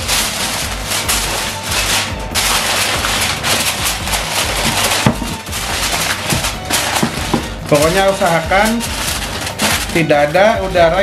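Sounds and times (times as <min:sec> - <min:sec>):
aluminium foil crinkling: 0:00.0 - 0:11.0
background music: 0:00.0 - 0:11.0.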